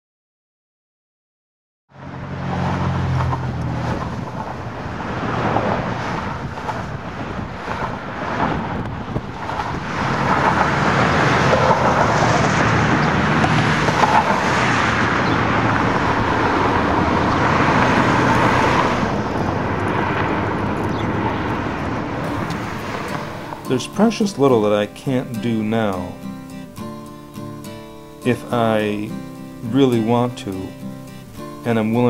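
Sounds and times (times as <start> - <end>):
cars going by: 1.9 - 32.0.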